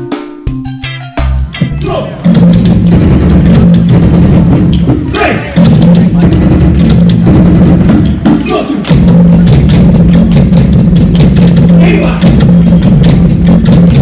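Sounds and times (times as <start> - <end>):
fast hand drum strikes: 0.0 - 14.0
steady low drone: 1.2 - 14.0.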